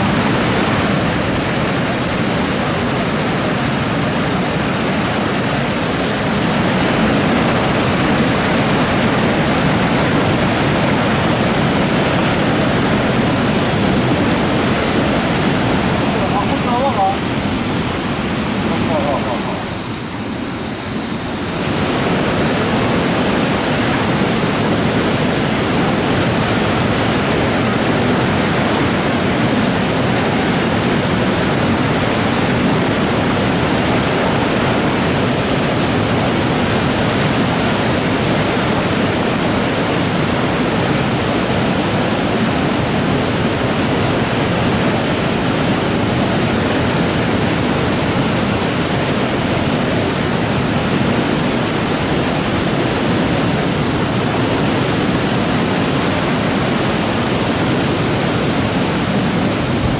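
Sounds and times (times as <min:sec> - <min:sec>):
flooded river roaring: 0:00.0 - 0:59.9.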